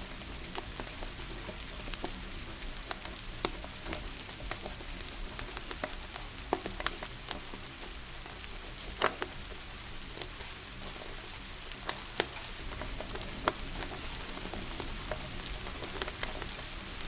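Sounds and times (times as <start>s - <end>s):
falling rain hiss: 0.0s - 17.0s
wood fire crackling and popping: 0.0s - 17.0s.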